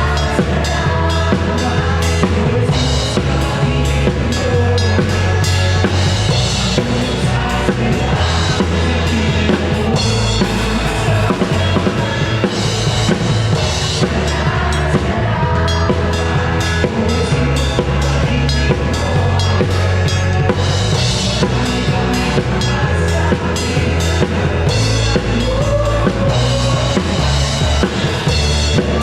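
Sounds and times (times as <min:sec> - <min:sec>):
bass drum and snare: 0:00.0 - 0:29.0
heavy bass: 0:00.0 - 0:29.0
live band playing loudly: 0:00.0 - 0:29.0.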